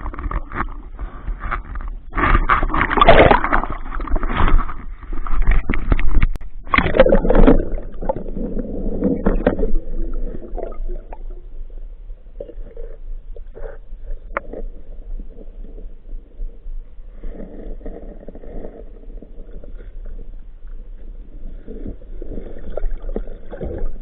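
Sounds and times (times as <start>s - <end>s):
muffled underwater gurgling: 0.0s - 24.0s.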